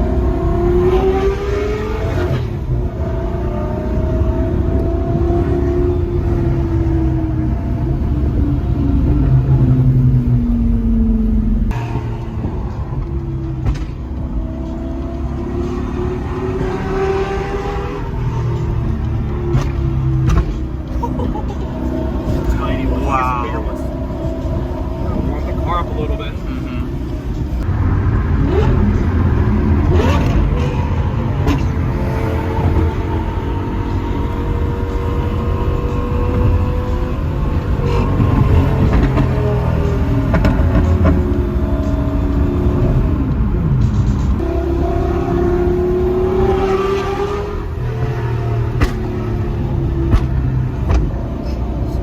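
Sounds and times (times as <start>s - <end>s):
sports car engine accelerating: 0.0s - 52.0s.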